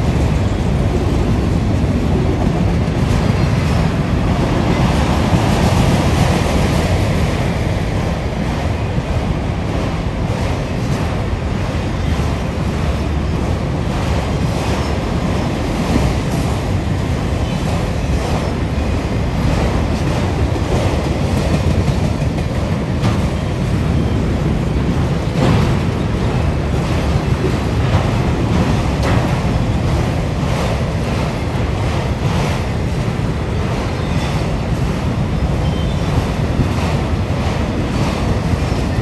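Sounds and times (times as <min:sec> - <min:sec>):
steel wheels rumbling on rail: 0:00.0 - 0:39.0.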